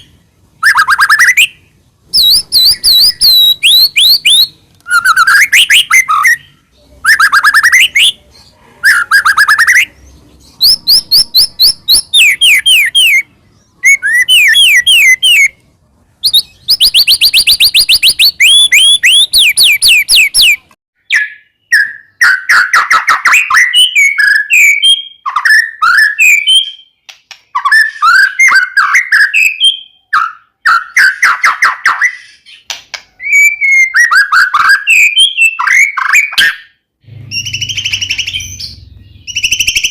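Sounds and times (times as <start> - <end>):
songbird whistling song: 0.0 - 15.6, 16.2 - 39.9.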